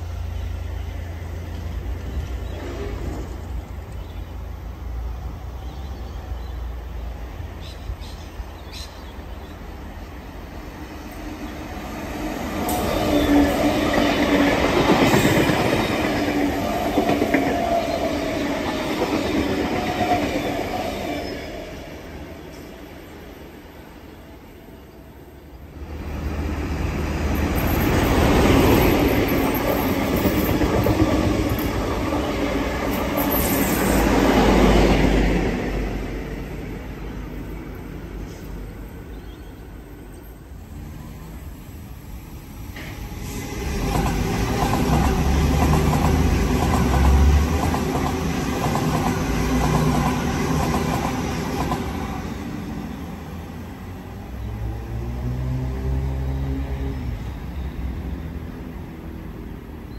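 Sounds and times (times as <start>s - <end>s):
diesel train passing: 0.0s - 59.9s
electric train passing: 0.0s - 59.9s.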